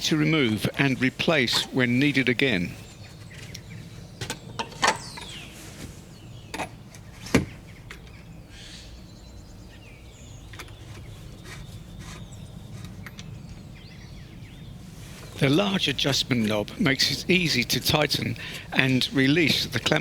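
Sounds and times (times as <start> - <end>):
birds chirping: 0.0 - 20.0
steady background hum: 0.0 - 20.0.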